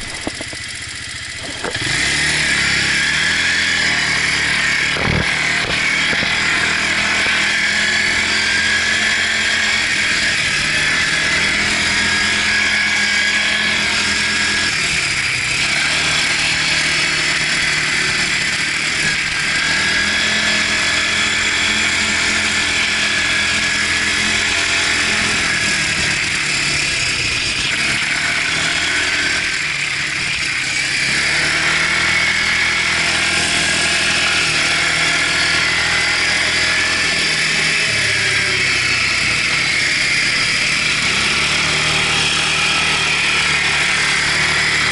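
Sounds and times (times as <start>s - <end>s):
quad bike engine revving: 0.0s - 44.9s.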